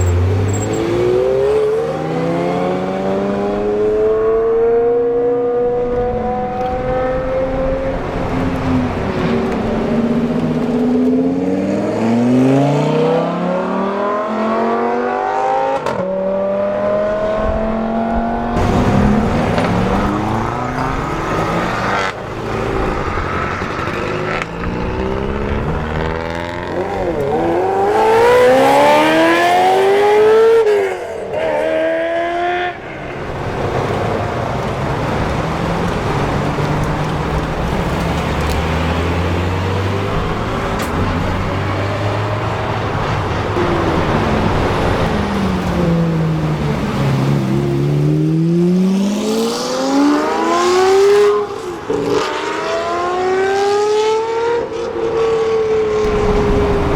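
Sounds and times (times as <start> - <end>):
sports cars accelerating hard: 0.0 - 56.9
traffic: 0.0 - 56.9.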